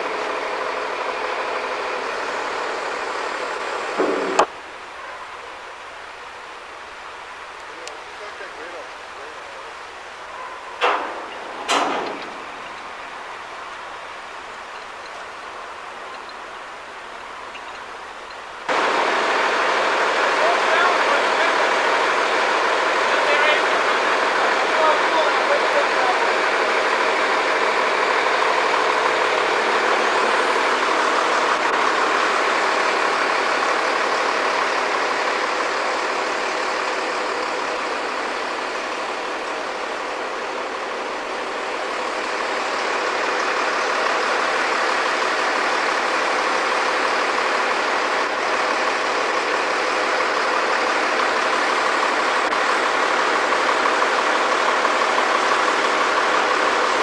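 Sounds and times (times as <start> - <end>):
heavy engine running: 0.0 - 4.7, 6.5 - 57.0.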